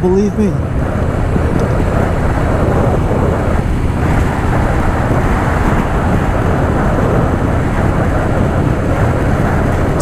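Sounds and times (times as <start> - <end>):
motorcycle engine running: 0.0 - 10.0
wind noise on microphone: 0.0 - 10.0.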